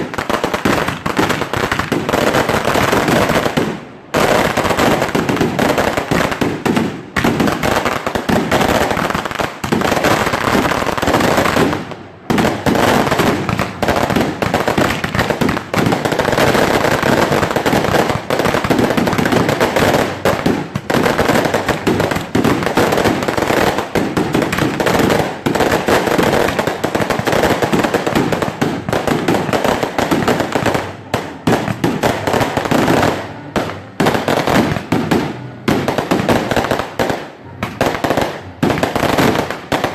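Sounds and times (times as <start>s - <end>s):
fireworks crackling bangs: 0.0s - 39.9s.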